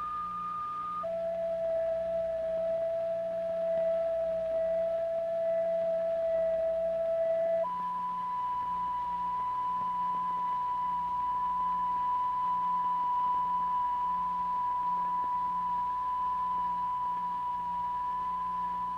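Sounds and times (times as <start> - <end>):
electronic sine tone: 0.0 - 18.9
faint low hum: 0.0 - 18.9.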